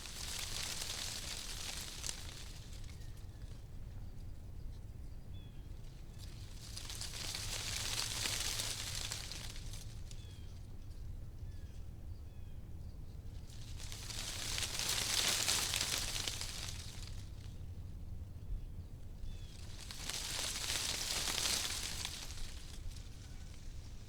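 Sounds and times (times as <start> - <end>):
wind rustling leaves: 0.0 - 3.8, 5.5 - 10.8, 13.3 - 24.0.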